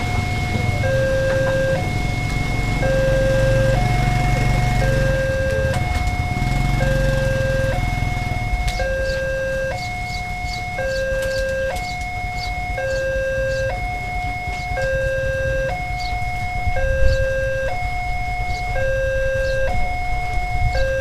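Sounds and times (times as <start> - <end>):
level crossing alarm: 0.0 - 21.0.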